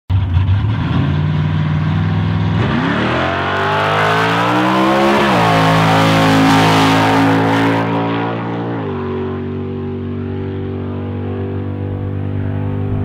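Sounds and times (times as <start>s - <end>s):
car engine accelerating hard: 0.1s - 13.0s.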